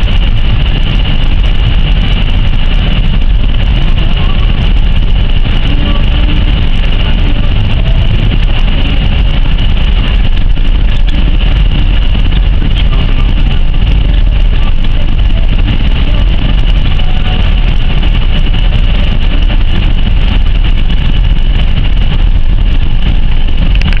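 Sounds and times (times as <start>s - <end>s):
road noise: 0.0s - 24.0s
wind rumble: 0.0s - 24.0s.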